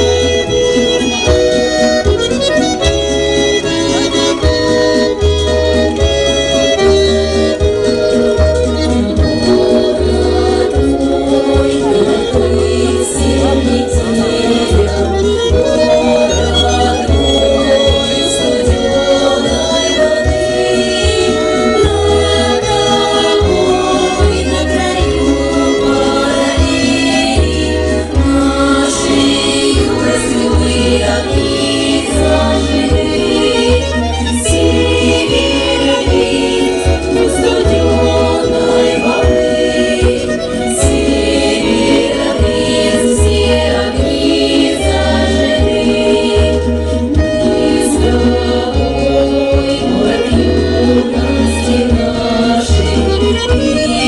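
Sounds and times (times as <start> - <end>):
instrumental accompaniment with bass: 0.0 - 54.0
women's choir singing: 9.0 - 54.0.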